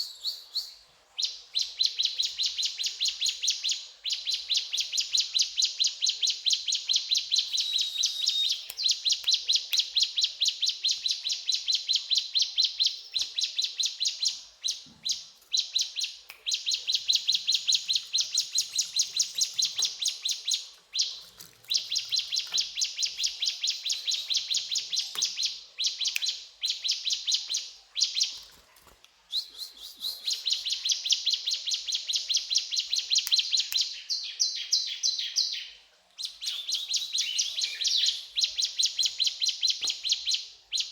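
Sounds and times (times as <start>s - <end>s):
bird singing high chirps: 0.0s - 28.4s, 29.3s - 40.9s.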